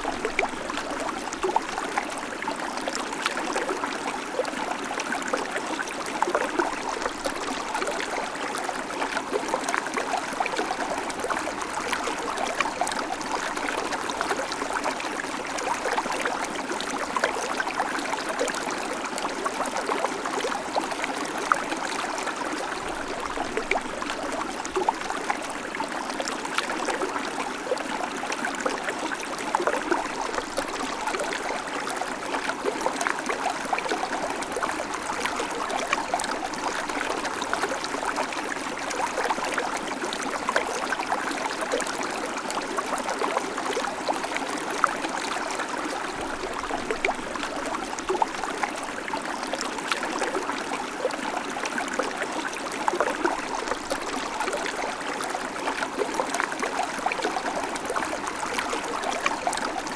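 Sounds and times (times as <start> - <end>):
creek water trickling over stones: 0.0 - 59.9.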